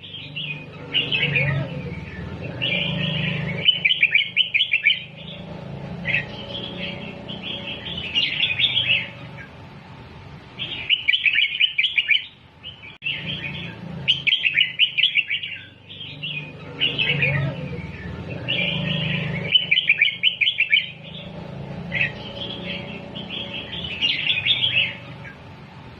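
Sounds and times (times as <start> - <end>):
bird chirping: 0.0 - 9.6, 10.5 - 25.6.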